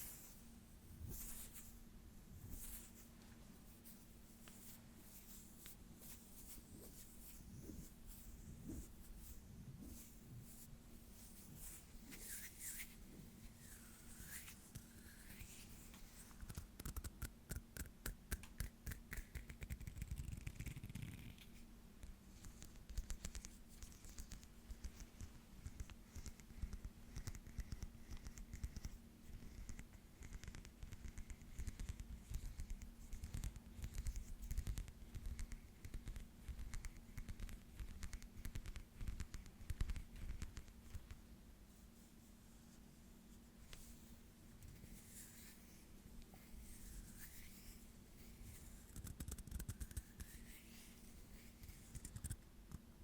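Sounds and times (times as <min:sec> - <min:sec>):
hands rubbing and scratching: 0:00.0 - 0:01.8, 0:02.4 - 0:21.6, 0:22.3 - 0:52.8
faint steady hum: 0:00.0 - 0:53.0.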